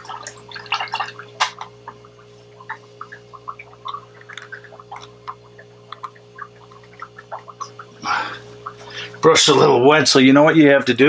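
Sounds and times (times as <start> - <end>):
paintbrush squelching in wet paint: 0.0 - 9.7
low hum: 0.0 - 10.2.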